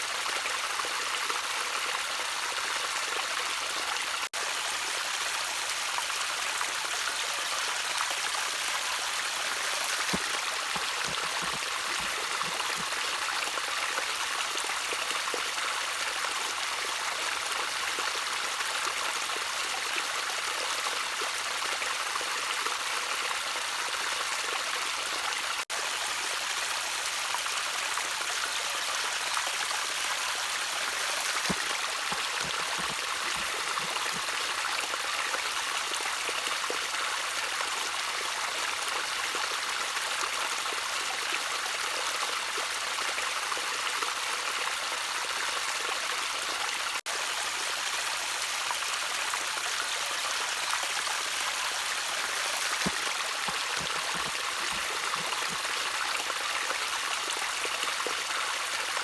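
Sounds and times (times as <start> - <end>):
trickling stream: 0.0 - 59.0.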